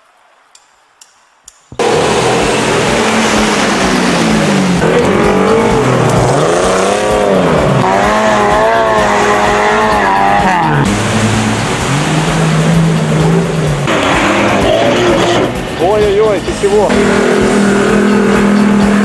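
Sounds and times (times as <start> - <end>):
spinning tyres rushing: 1.8 - 19.0
vehicle engine revving: 1.8 - 19.0.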